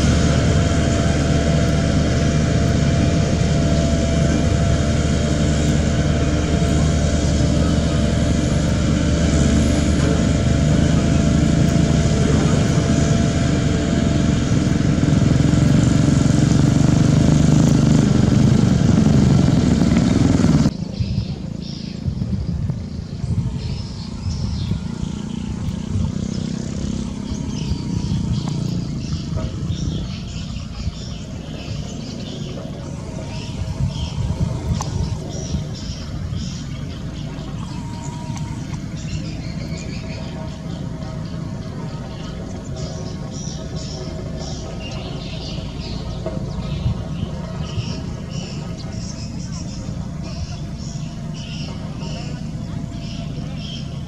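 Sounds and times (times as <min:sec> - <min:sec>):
heavy machine engine rumbling: 0:00.0 - 0:54.0
rough machine rumble: 0:00.0 - 0:54.0.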